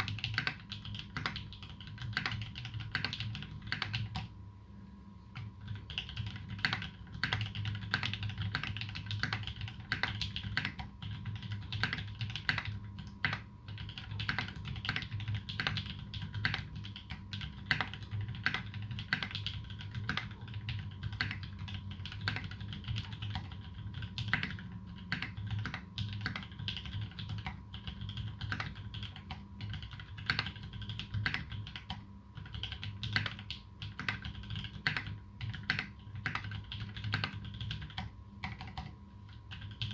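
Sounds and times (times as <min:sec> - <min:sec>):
typing on mechanical keyboard: 0:00.0 - 0:04.3, 0:05.4 - 0:39.9
steady low hum: 0:00.0 - 0:39.9.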